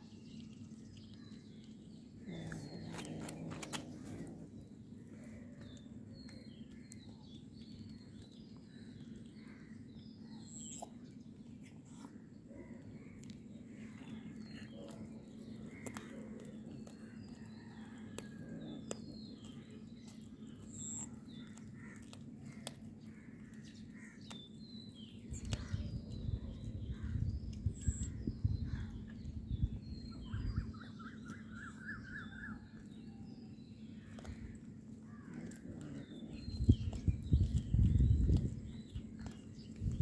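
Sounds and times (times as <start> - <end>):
birds chirping and calling: 0.0 - 40.0
steady low hum: 0.0 - 40.0.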